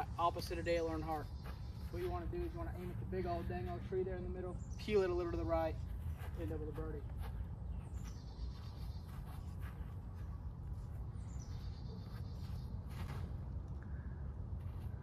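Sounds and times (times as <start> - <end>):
songbird trills: 0.0 - 13.2
steady low rumble: 0.0 - 15.0.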